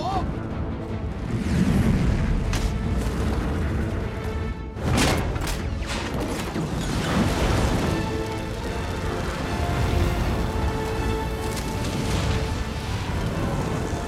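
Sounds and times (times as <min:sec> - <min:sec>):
film music: 0:00.0 - 0:14.0.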